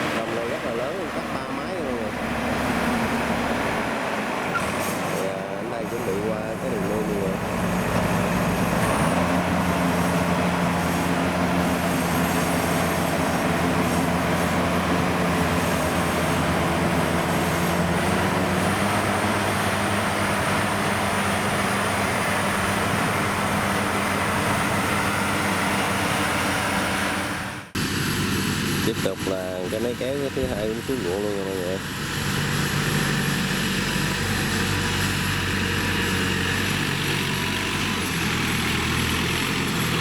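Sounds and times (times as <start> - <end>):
diesel harvester engines running: 0.0 - 40.0.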